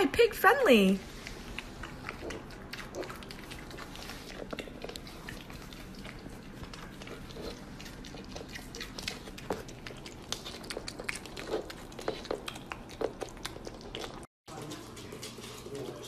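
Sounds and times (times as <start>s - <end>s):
pig chewing and smacking lips: 1.0s - 16.0s.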